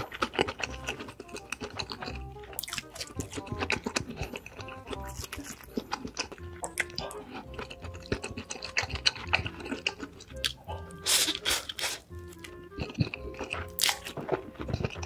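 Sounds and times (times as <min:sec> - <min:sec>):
close chewing and crunching: 0:00.0 - 0:15.0
soft background music: 0:00.0 - 0:15.0.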